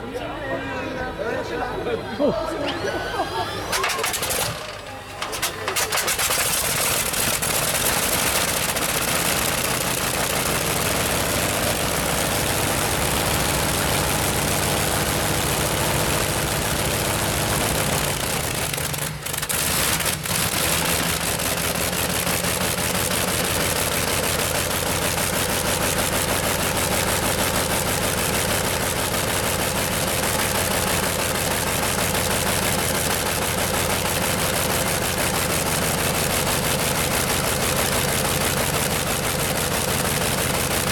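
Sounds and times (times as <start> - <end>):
radial engine running: 0.3 - 40.9.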